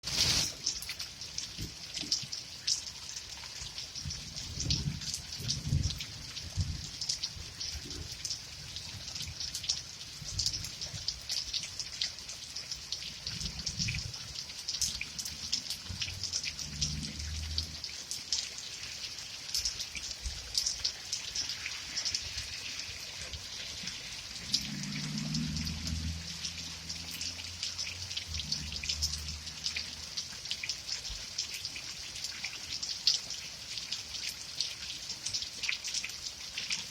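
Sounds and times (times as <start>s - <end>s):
rain drops ticking: 0.0s - 36.9s.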